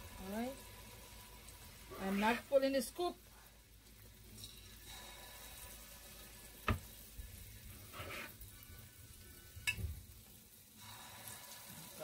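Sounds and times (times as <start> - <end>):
batter frying in hot oil: 0.0 - 12.0.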